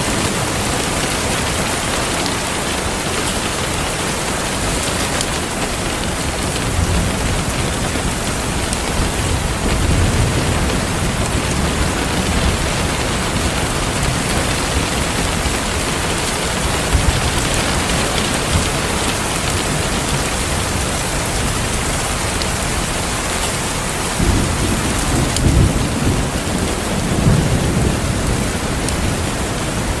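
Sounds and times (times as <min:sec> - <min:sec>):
heavy rain hissing: 0:00.0 - 0:30.0
thunder rumbling: 0:00.0 - 0:30.0.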